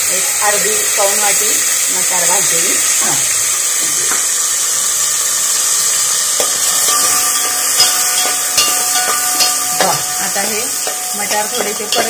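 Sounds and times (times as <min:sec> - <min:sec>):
peas sizzling in hot oil: 0:00.0 - 0:12.0.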